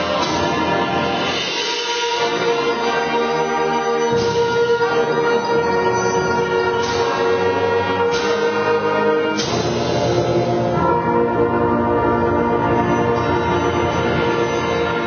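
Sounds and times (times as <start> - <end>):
concert band playing: 0.0 - 15.0.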